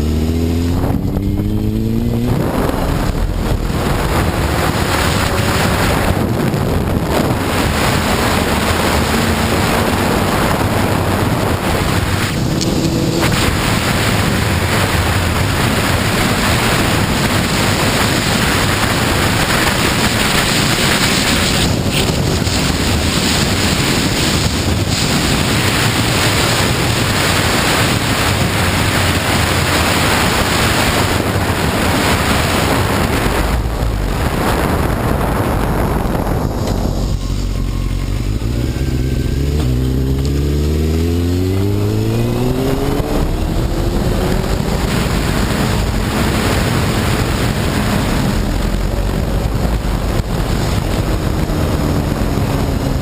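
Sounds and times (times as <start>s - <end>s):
motorcycle engine: 0.0s - 53.0s
wind rushing over microphone: 0.0s - 53.0s.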